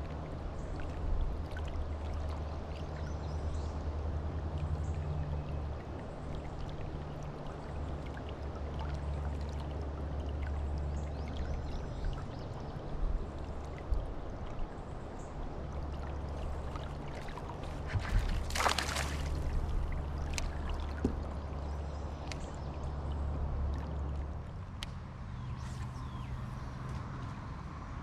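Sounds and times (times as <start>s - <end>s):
river water trickling: 0.0s - 28.0s.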